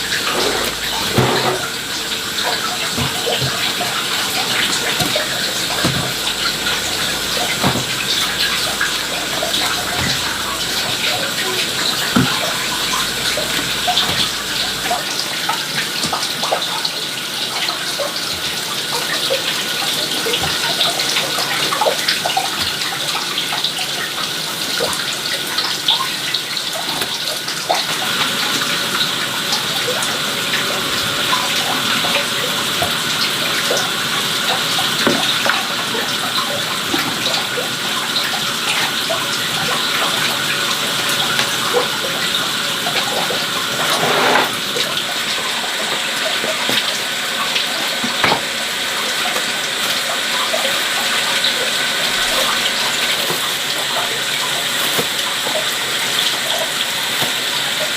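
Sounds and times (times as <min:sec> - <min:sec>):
water running: 0:00.0 - 0:57.9.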